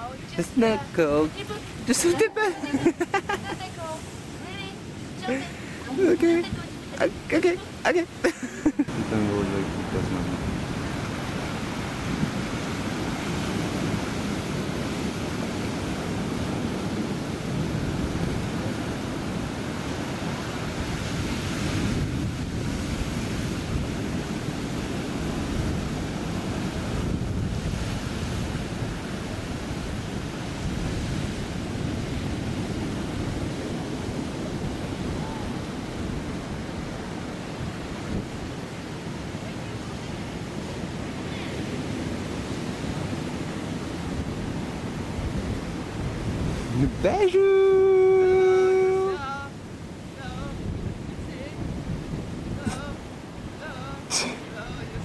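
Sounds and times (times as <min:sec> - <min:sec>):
surf breaking on rocky shore: 0:00.0 - 0:55.0
wind buffeting microphone: 0:00.0 - 0:55.0.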